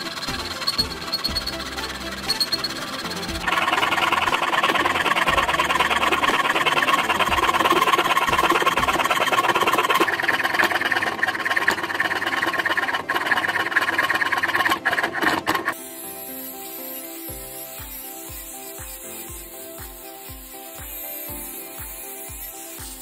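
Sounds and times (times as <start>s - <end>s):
small power tool rattling: 0.0s - 23.0s.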